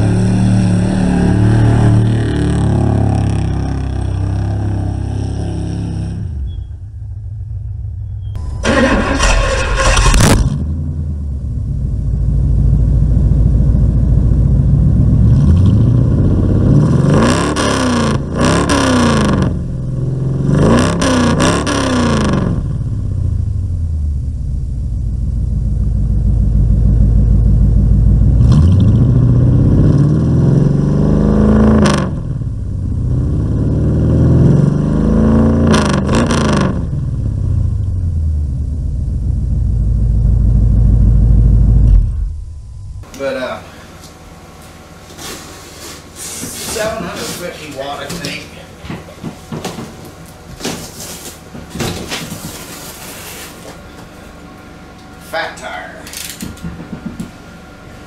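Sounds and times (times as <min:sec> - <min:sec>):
truck engine idling and revving: 0:00.0 - 0:58.0.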